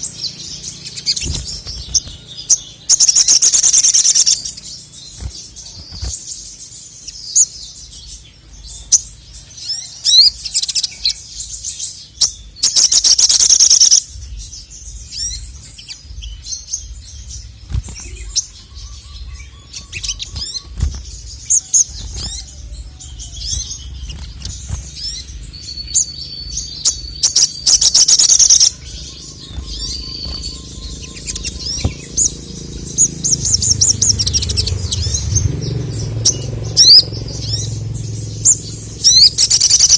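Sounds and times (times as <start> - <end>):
bird singing high chirps: 0.0 - 39.9
loud rapid bird trills: 0.0 - 39.9.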